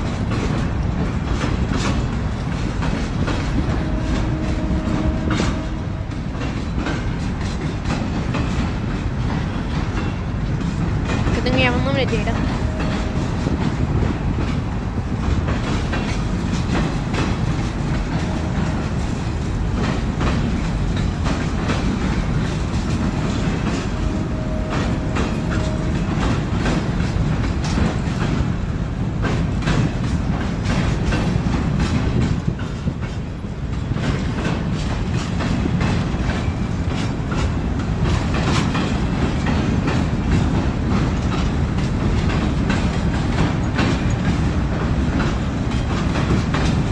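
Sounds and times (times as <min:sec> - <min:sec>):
train rumbling: 0:00.0 - 0:46.9
train wheels clacking over rail joints: 0:00.0 - 0:46.9.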